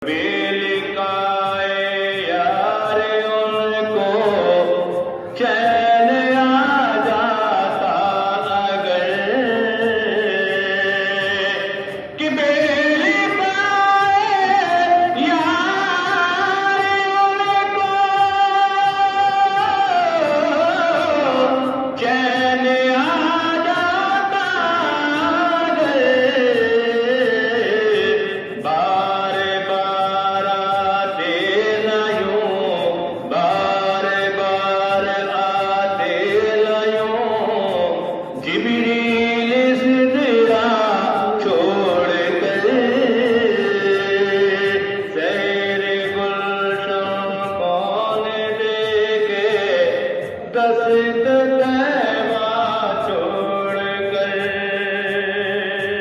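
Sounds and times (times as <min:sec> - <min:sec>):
devotional song singing: 0:00.0 - 0:56.0
soft steady beat: 0:00.0 - 0:56.0.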